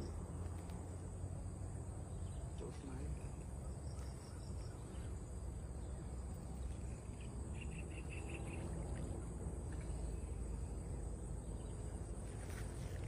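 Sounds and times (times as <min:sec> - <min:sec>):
insects chirring: 0:00.0 - 0:13.0
quick insect chirps: 0:00.0 - 0:13.0.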